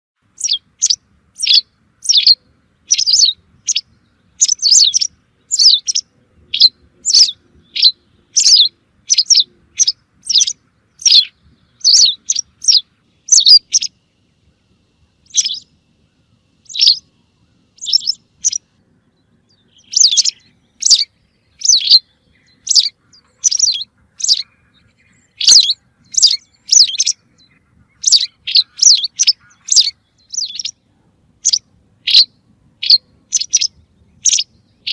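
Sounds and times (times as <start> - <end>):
bird chirping: 0.2 - 34.9.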